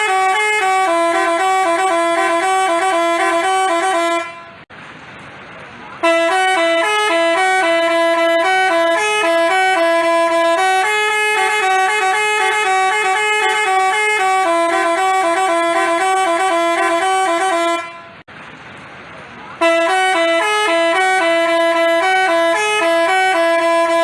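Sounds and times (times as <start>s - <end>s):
musical air horn tune: 0.0s - 4.6s, 6.0s - 18.2s, 19.6s - 24.0s.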